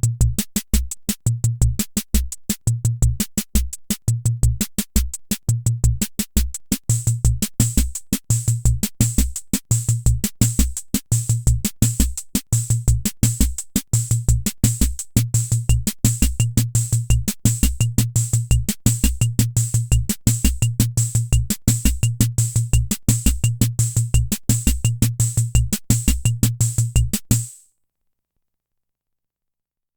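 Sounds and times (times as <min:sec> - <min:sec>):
rhythm machine beat: 0:00.0 - 0:27.6.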